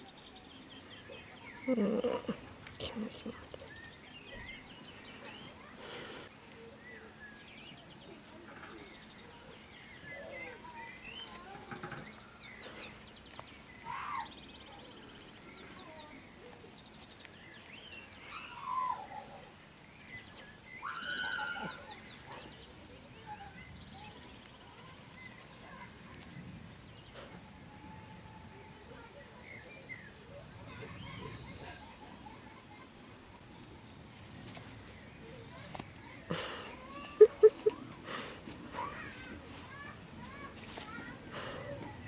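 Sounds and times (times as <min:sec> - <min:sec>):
faint steady background noise: 0:00.0 - 0:42.0.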